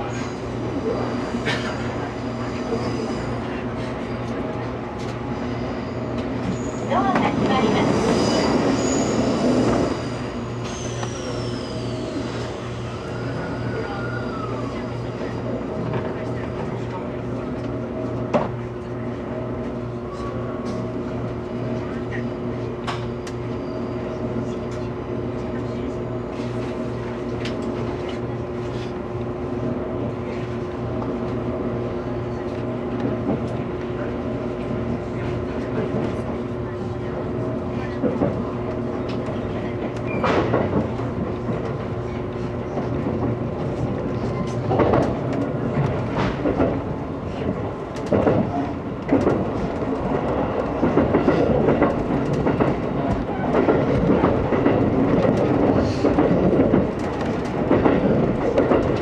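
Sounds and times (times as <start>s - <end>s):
pulsing train hum: 0.0s - 59.0s.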